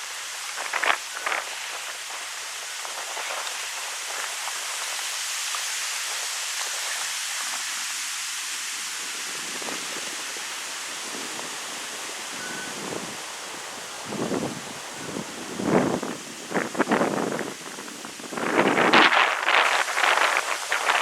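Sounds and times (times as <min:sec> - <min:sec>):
wind rustling leaves: 0:00.0 - 0:21.0.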